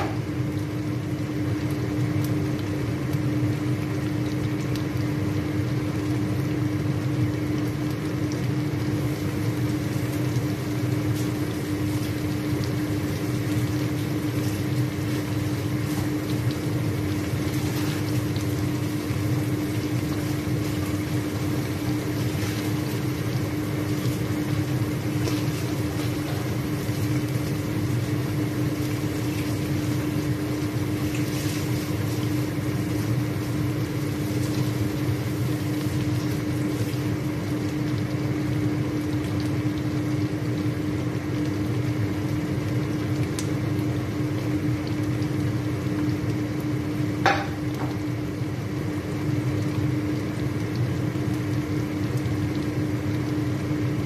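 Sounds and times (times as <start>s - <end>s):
chicken sizzling in hot oil: 0.0s - 54.0s
steady hum: 0.0s - 54.0s.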